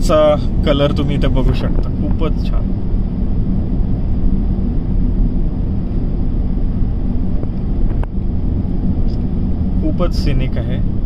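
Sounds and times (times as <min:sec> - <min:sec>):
car road rumble inside cabin: 0:00.0 - 0:11.0.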